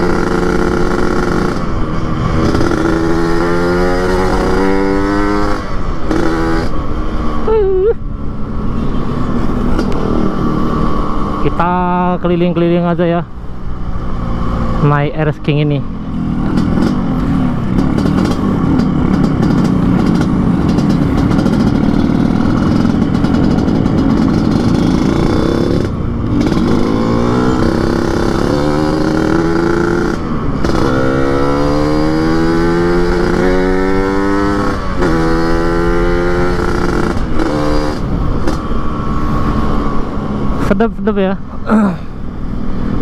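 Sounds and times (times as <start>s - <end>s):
motorcycle engine accelerating: 0.0s - 43.0s.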